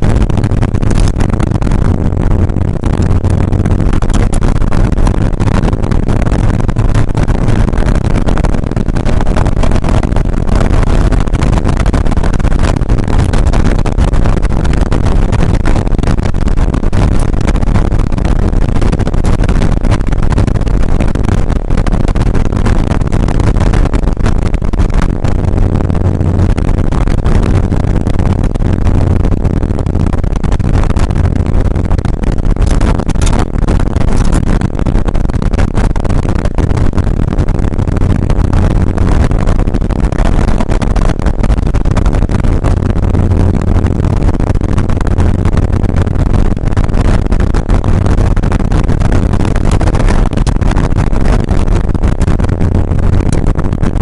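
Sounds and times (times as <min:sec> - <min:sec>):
car engine running hard: 0:00.0 - 0:51.4
road and wind noise: 0:00.0 - 0:54.0.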